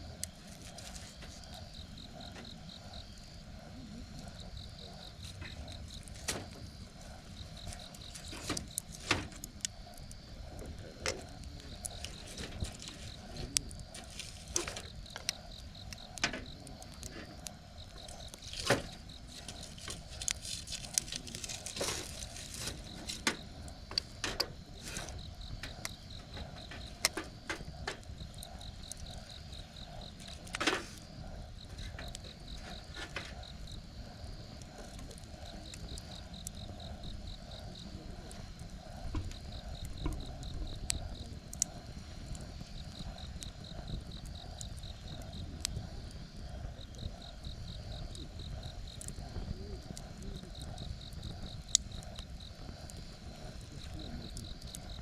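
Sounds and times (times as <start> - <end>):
campfire crackling and popping: 0.0 - 55.0
insects chirping: 0.0 - 55.0.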